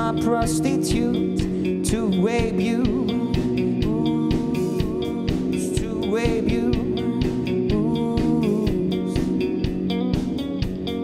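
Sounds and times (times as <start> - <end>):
drum kit beat: 0.0 - 11.0
electric guitar: 0.0 - 11.0.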